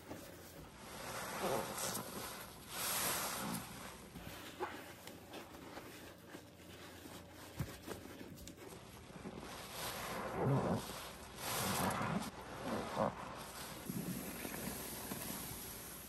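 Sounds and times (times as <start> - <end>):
sponge squelching: 0.0 - 16.0.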